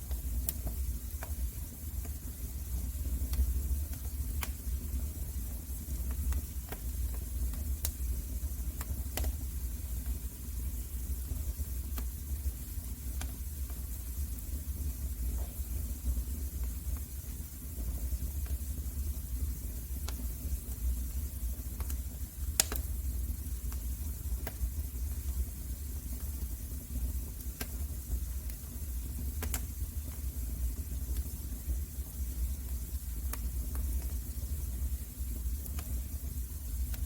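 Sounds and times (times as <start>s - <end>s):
wood fire burning: 0.0s - 37.0s.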